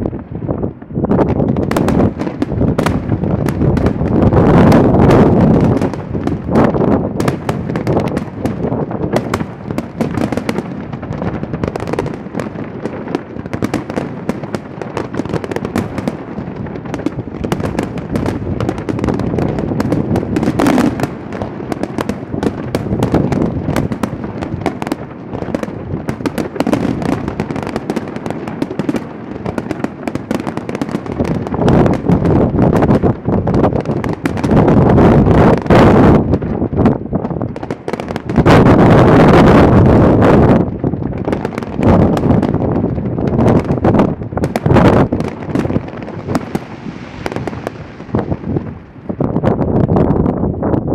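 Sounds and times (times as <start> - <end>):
fireworks crackling bangs and pops: 0.0 - 50.9.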